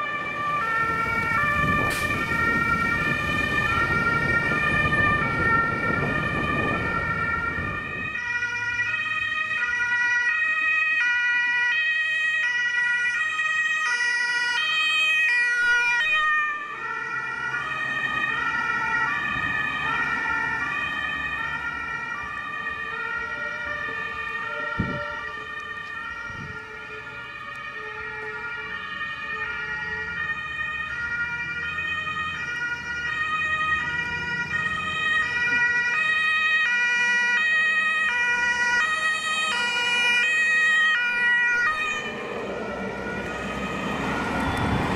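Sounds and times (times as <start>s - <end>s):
fire truck engine rumbling: 0.0s - 44.9s
two-tone fire engine sirens: 0.0s - 44.9s.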